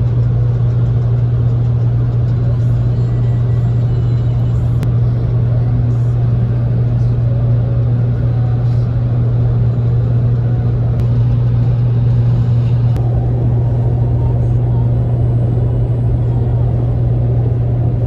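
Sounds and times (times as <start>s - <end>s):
moving vehicle drone: 0.0s - 18.0s.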